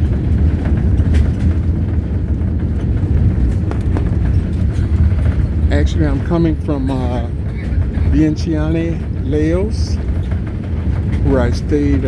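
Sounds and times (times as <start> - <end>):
airliner cabin rumble: 0.0 - 12.0
faint clicks and rattles: 0.0 - 12.0.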